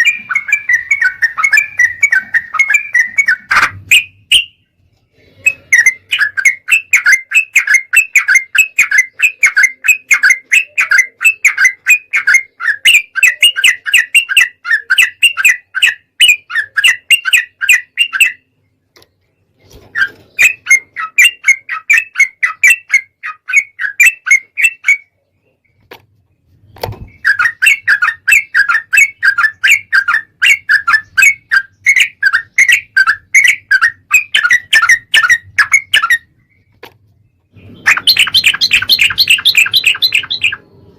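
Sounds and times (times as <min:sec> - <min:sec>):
bulbul chattering song: 0:00.0 - 0:18.6, 0:20.0 - 0:25.4, 0:27.0 - 0:36.4, 0:37.5 - 0:40.9.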